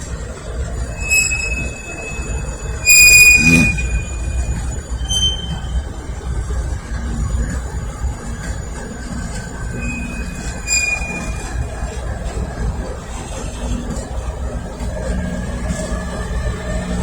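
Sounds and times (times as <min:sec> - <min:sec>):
freight train rumbling: 0:00.0 - 0:17.0
train wheels squealing: 0:00.5 - 0:17.0.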